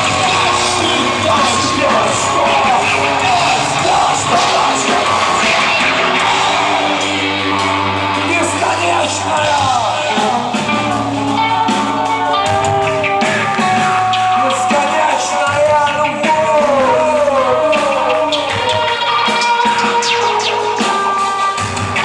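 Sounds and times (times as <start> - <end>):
person singing: 0.0 - 21.6
live rock band playing: 0.0 - 22.0.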